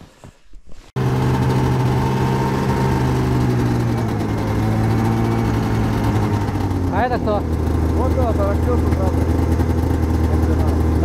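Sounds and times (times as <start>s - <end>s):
snowmobile engine idling: 1.0s - 11.0s.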